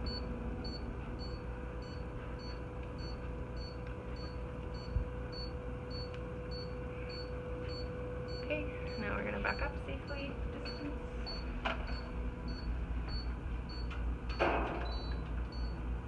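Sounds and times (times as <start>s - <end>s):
patient monitor pulse beeps: 0.0s - 15.9s
electrical hum: 0.0s - 16.0s.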